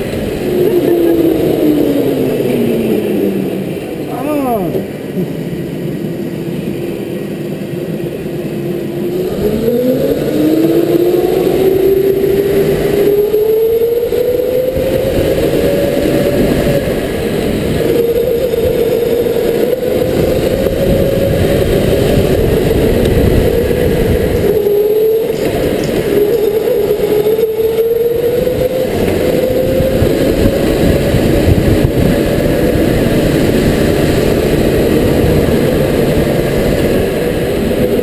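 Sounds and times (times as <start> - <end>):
electric go-kart motor whining: 0.0 - 38.0
low rumble: 0.0 - 38.0.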